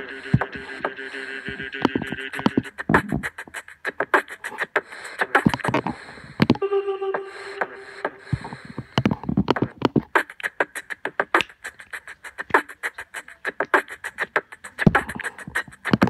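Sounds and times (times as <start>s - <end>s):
person beatboxing: 0.0s - 16.0s.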